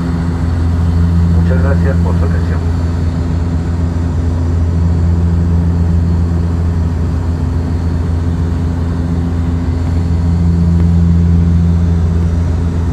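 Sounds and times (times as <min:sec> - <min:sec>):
airliner cabin drone: 0:00.0 - 0:12.9.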